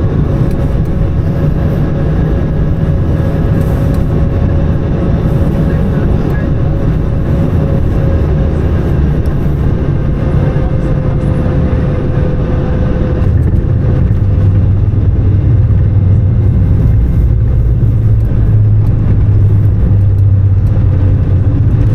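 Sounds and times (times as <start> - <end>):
airplane cabin engine rumble: 0.0 - 21.9
deep low rumble: 0.0 - 21.9.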